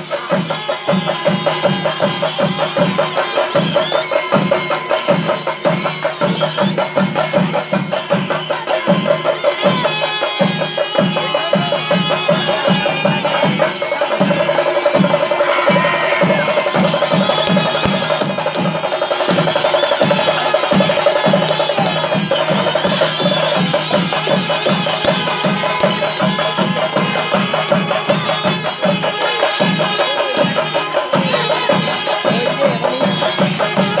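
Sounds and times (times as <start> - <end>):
festival drumming: 0.0 - 34.0.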